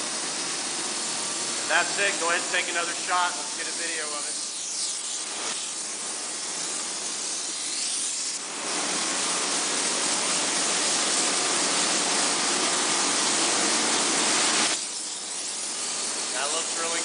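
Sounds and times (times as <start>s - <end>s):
spray foam gun hissing: 0.0s - 17.0s.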